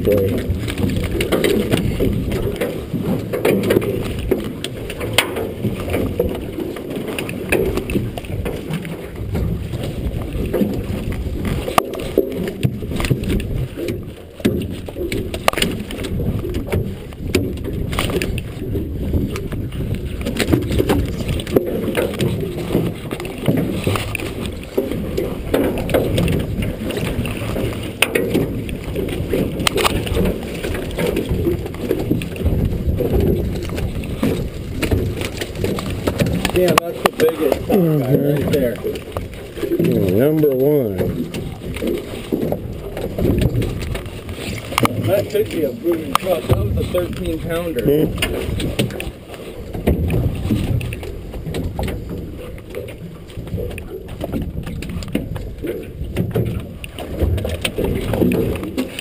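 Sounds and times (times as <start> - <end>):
knocks and clicks from hauling net: 0.0 - 59.0
muffled boat engine rumble: 0.0 - 59.0.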